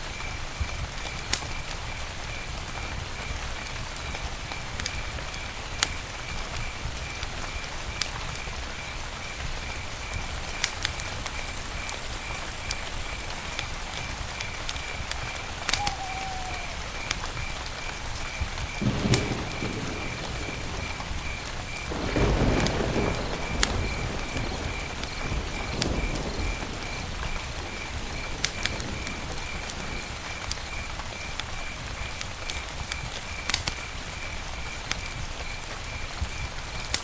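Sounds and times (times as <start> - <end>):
campfire crackling and popping: 0.0 - 37.0
fire rushing: 0.1 - 37.0.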